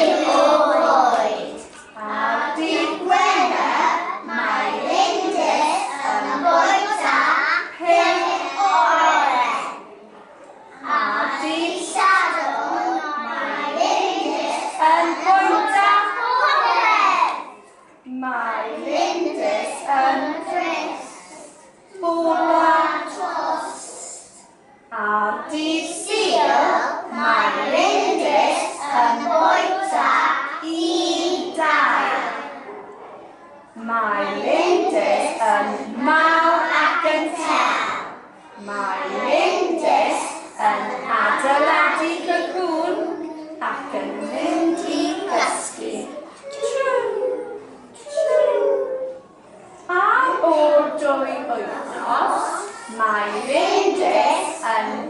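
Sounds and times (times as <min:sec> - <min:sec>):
young children singing: 0:00.0 - 0:09.9, 0:10.8 - 0:17.6, 0:18.7 - 0:24.4, 0:25.4 - 0:32.9, 0:34.2 - 0:49.3, 0:51.8 - 0:55.0.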